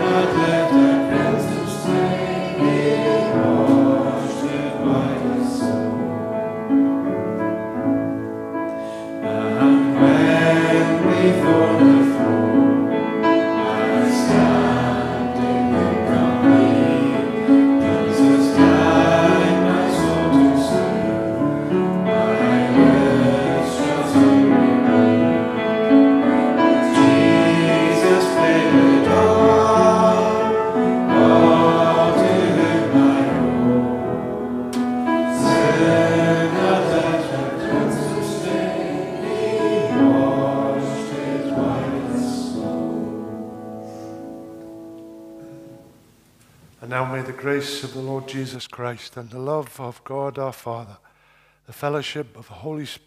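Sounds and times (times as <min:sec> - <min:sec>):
congregation singing a hymn: 0:00.0 - 0:46.0.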